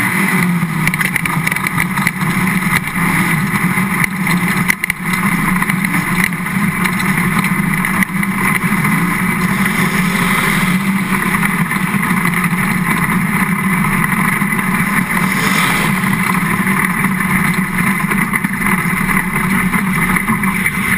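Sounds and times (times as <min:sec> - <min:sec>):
race car engine running: 0:00.0 - 0:20.9.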